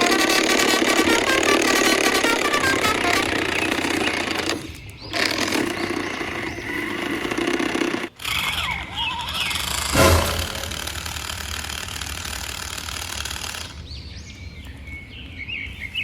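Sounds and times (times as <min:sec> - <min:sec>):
model truck motors whining: 0:00.0 - 0:14.0.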